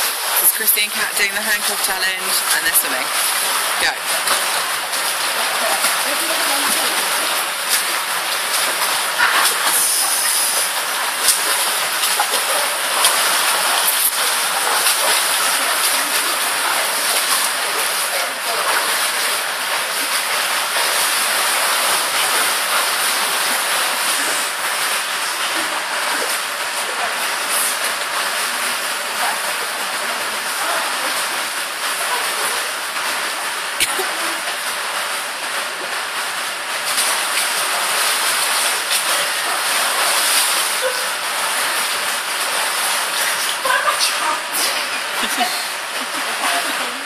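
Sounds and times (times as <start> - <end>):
swimmers splashing: 0.0 - 47.0.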